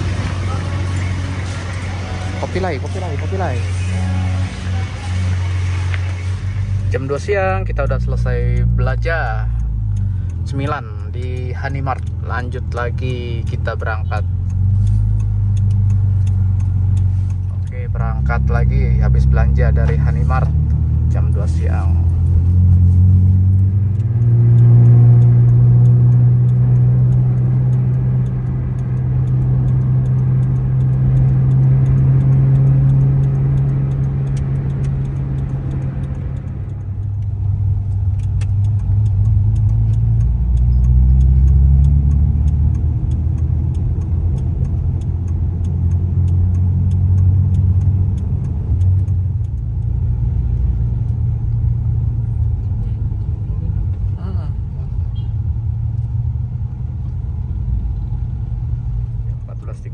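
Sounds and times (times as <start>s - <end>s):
car engine accelerating: 0.0s - 59.9s
road rumble: 0.0s - 59.9s.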